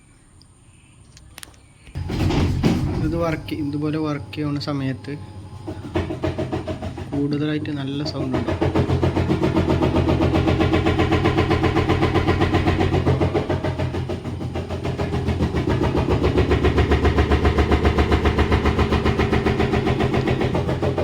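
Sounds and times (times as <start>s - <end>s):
rhythmic knocking: 1.9s - 21.0s
washing machine spinning: 1.9s - 21.0s.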